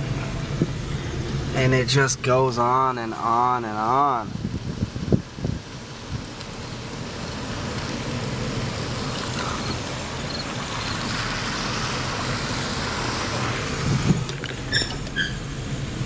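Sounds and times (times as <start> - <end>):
car engine and road hum: 0.0 - 16.0
tyre hiss on wet pavement: 0.0 - 16.0.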